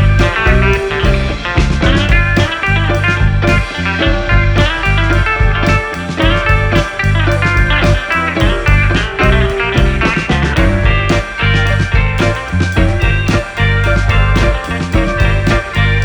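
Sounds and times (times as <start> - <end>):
guitar-led rock music: 0.0 - 16.0.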